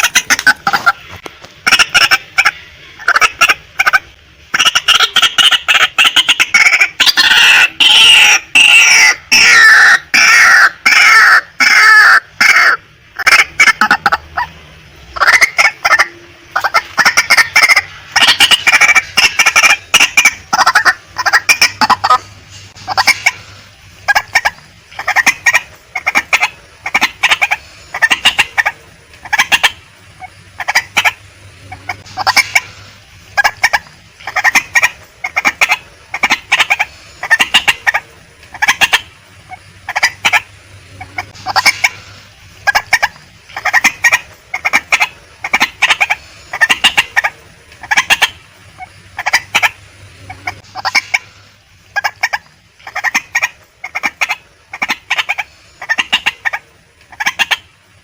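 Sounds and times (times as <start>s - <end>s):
bird clucking calls: 0.0s - 57.7s.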